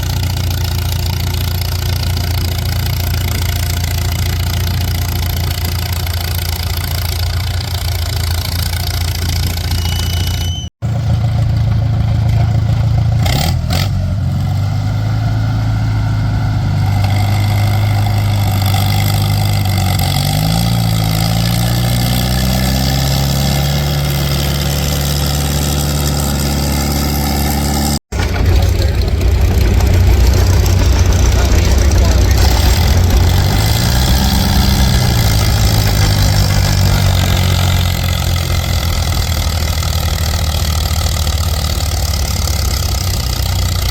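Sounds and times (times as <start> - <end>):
tractor engine revving: 0.0 - 43.9.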